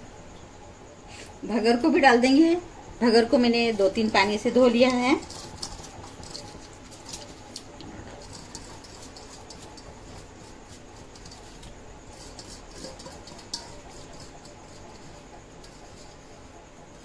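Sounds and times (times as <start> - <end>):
faint steady hiss: 0.0 - 17.0
spoon scraping in a pan: 3.3 - 17.0.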